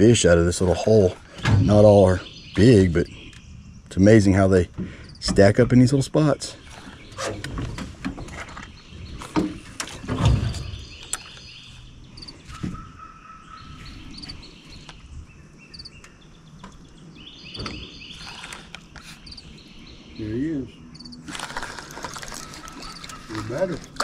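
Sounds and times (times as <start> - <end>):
birds chirping: 0.0 - 24.0
river swamp ambience: 0.0 - 24.0.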